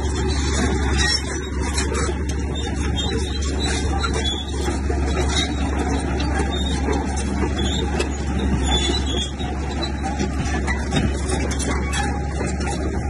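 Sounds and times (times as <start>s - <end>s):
bulldozer diesel engine rumble: 0.0s - 13.0s.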